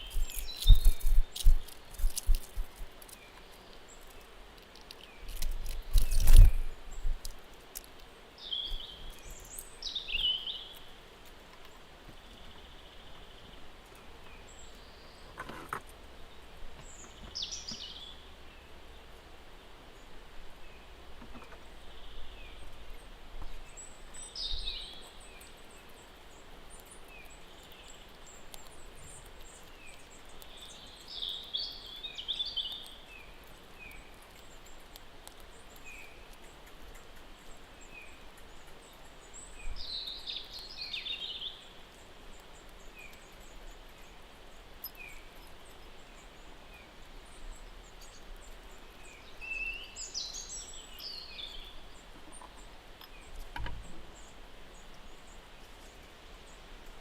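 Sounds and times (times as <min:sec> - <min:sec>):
songbird song phrases: 0:00.0 - 0:57.0
steady ambient hiss: 0:00.0 - 0:57.0.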